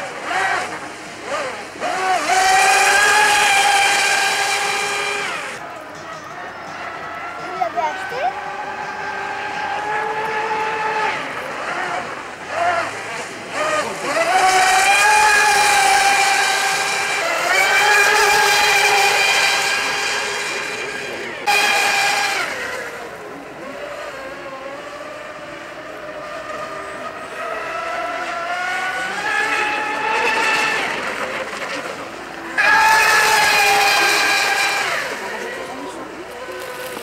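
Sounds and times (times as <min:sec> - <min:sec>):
high-pitched model boat motor whine: 0:00.0 - 0:37.0.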